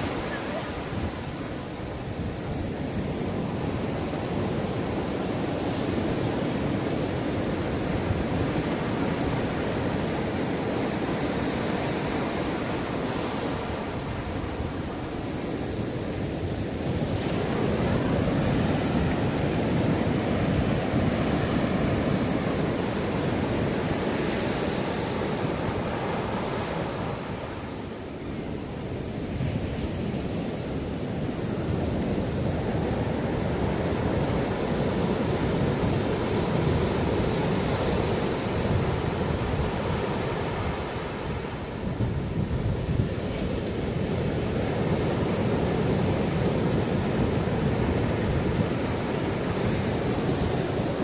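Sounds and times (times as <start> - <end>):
ocean waves washing on shore: 0.0 - 51.0.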